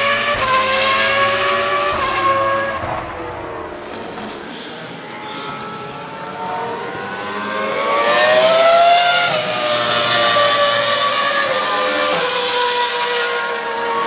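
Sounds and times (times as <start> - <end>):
racing car engine accelerating: 0.0 - 4.0, 5.5 - 14.0.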